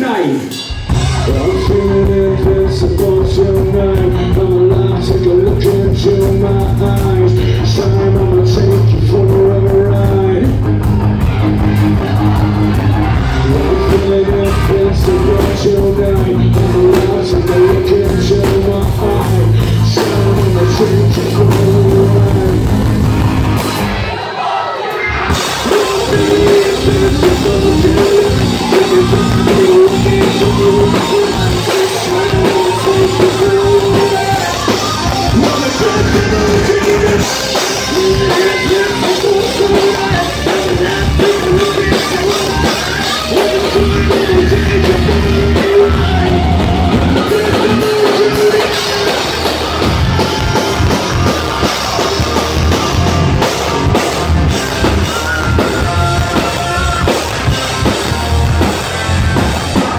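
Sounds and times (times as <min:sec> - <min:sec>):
person singing: 0:00.0 - 0:23.6, 0:24.4 - 0:59.9
drum kit: 0:00.0 - 0:24.2, 0:24.8 - 0:59.9
distorted electric guitars: 0:00.0 - 0:59.9.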